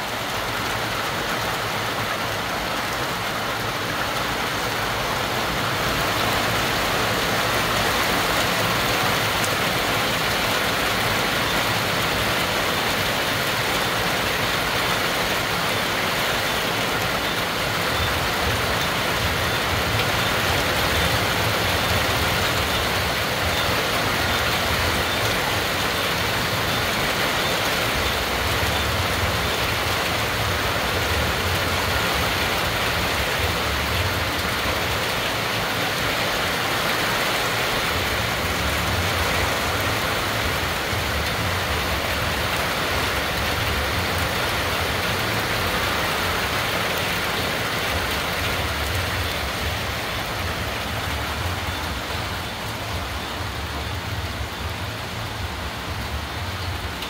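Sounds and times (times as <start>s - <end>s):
heavy rain on trees and roofs: 0.0s - 57.0s.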